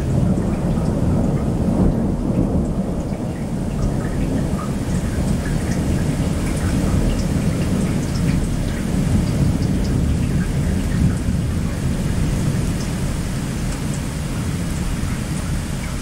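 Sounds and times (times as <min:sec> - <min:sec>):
faint raindrop ticks: 0:00.0 - 0:16.0
thunder rumbling: 0:00.0 - 0:16.0.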